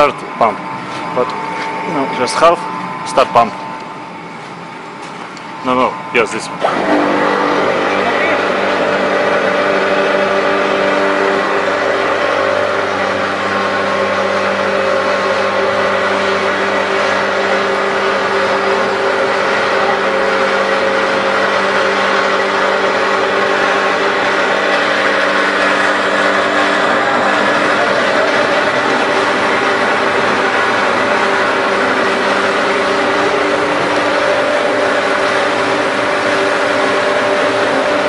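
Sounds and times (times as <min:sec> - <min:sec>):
mixer pump running: 0:00.0 - 0:38.0.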